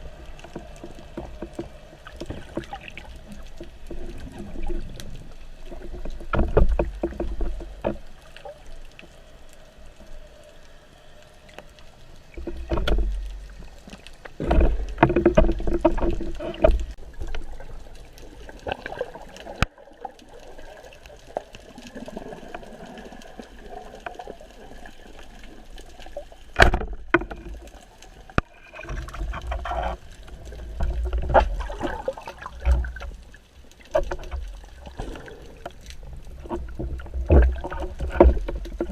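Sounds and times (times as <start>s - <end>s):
water sloshing and churning: 0.0s - 38.9s.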